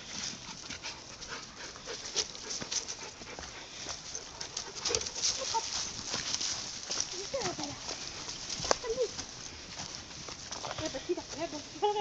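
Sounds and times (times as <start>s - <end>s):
footsteps crunching through leaves: 1.8s - 12.0s.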